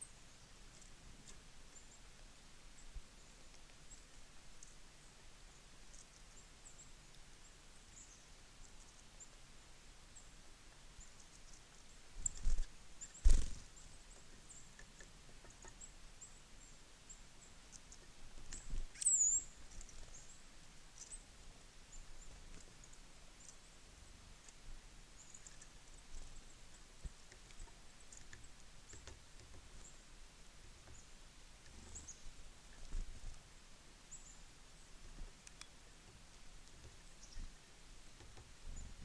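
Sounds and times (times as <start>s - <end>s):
small birds chipping: 0.0s - 39.0s.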